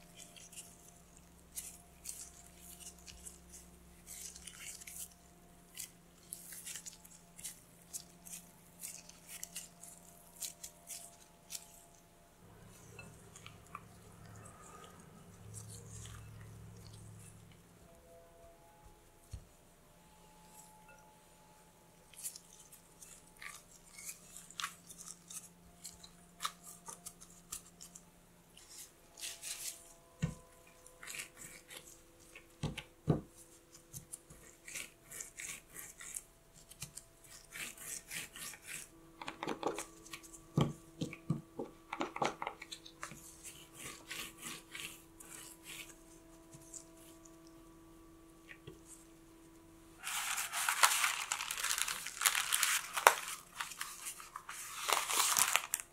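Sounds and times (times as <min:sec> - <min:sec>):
gloves rubbing dough: 0:00.0 - 0:17.5, 0:22.1 - 0:47.8, 0:48.5 - 0:55.9.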